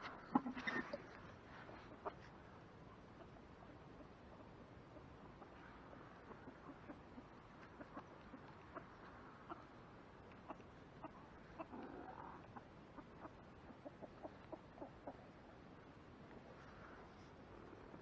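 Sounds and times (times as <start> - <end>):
chickens clucking: 0.0 - 16.6.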